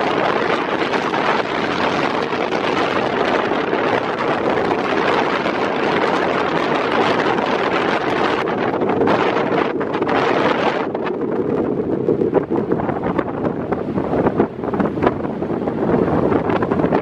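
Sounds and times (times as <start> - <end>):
boat engines: 0.0 - 17.0
churning wake: 0.0 - 17.0
wind buffeting microphone: 0.0 - 17.0.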